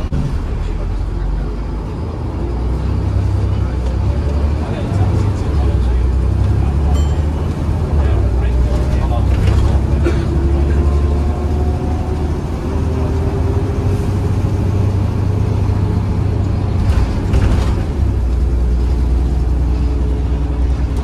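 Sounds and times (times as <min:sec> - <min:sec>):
bus diesel engine rumble: 0:00.0 - 0:21.0.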